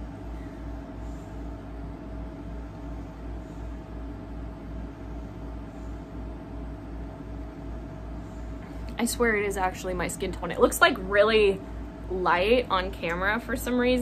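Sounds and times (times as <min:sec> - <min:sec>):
faint constant whine: 0:00.0 - 0:14.0
low mechanical hum throbbing: 0:00.0 - 0:14.0.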